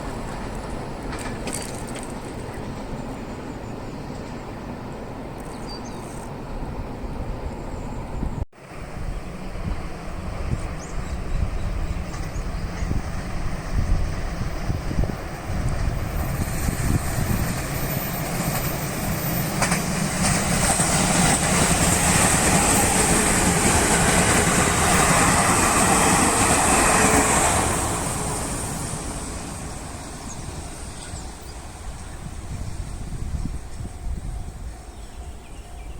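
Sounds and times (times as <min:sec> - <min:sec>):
train wheels on rail: 0:00.0 - 0:35.9.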